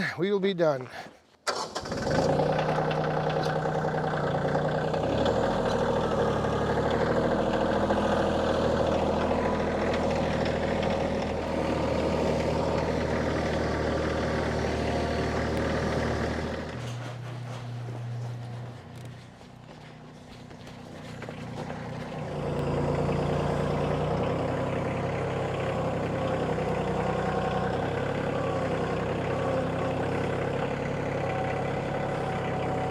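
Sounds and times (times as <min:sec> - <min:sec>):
diesel tractor engine running: 0:01.4 - 0:32.9.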